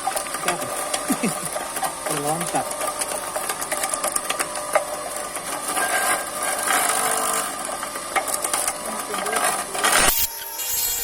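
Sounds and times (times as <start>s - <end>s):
electric motor whirring: 0.0s - 11.0s.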